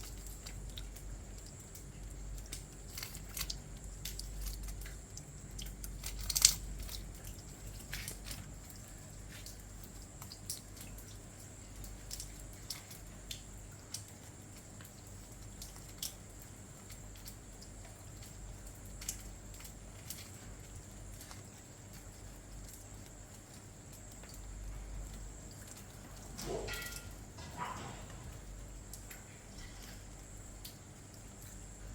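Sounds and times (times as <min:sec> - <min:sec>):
rain drips tapping: 0:00.0 - 0:31.9.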